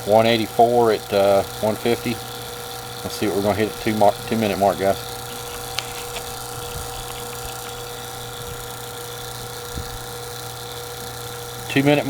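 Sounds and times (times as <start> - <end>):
vacuum pump humming: 0.0 - 12.0.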